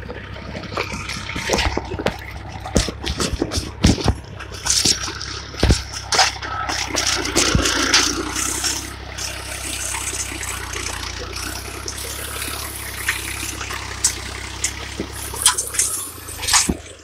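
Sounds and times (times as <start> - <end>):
cultivator crunching through soil: 0.0 - 17.0
tractor engine humming: 0.0 - 17.0.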